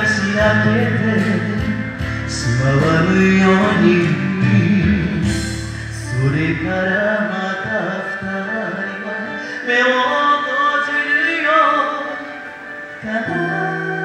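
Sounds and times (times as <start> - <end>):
instrumental backing music: 0.0 - 14.0
man singing into microphone: 0.0 - 14.0.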